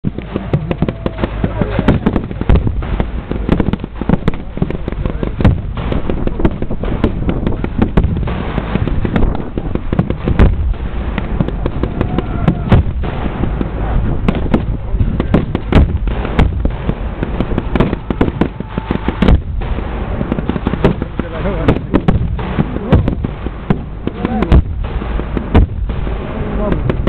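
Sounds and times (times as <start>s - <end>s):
blank gunfire crackle: 0.0s - 27.0s
ground charges banging: 0.0s - 27.0s.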